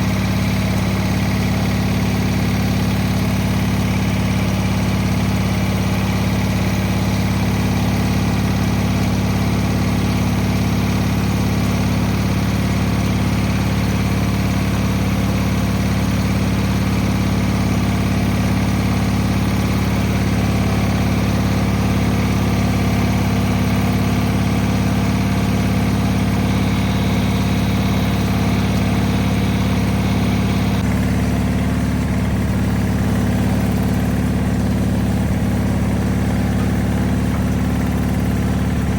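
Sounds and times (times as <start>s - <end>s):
single-cylinder engine idling: 0.0s - 38.9s.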